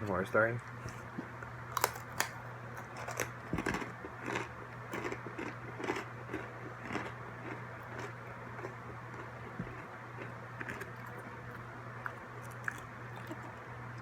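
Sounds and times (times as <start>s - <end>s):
steady low hum: 0.0s - 14.0s
person chewing crunchy pretzels: 1.7s - 14.0s.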